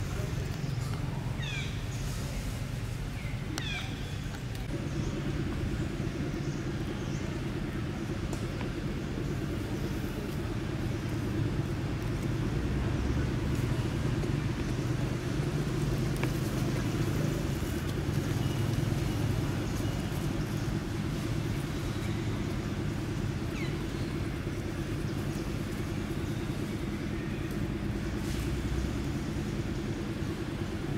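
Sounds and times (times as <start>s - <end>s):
faint hum: 0.0s - 30.9s
low mechanical rumble: 0.0s - 30.9s.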